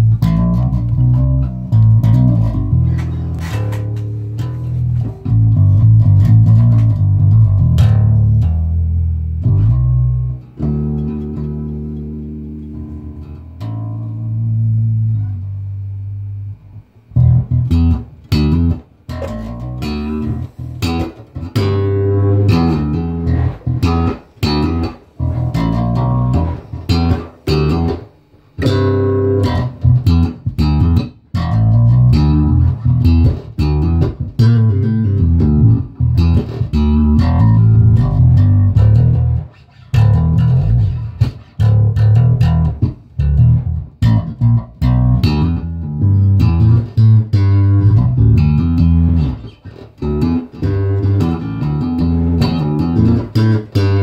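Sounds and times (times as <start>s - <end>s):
electric bass guitar plucked: 0.0s - 54.0s.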